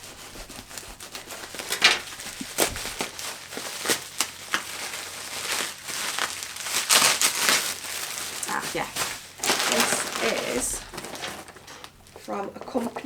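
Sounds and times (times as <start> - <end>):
packing material crinkling: 0.0 - 12.9.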